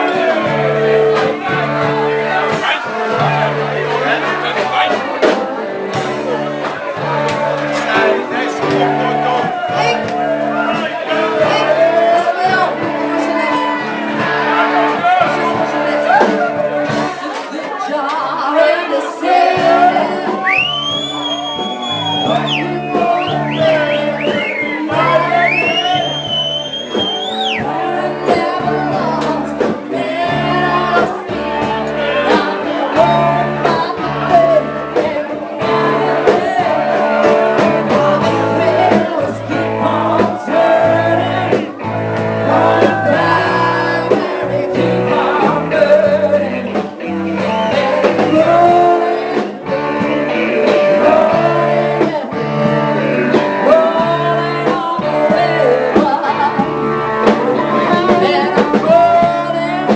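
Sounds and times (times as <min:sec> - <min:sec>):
bass line: 0:00.0 - 0:17.3, 0:18.5 - 0:59.9
guitar: 0:00.0 - 0:59.9
live rock band playing: 0:00.0 - 0:59.9
person singing: 0:00.0 - 0:59.9.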